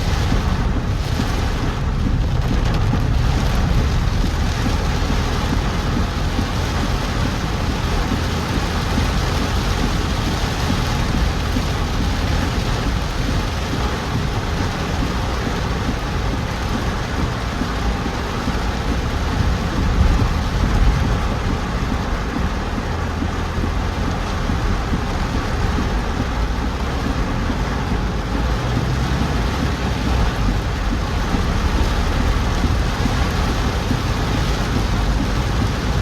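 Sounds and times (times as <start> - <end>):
car tyres on wet road: 0.0 - 36.0
heavy rain on a car: 0.0 - 36.0.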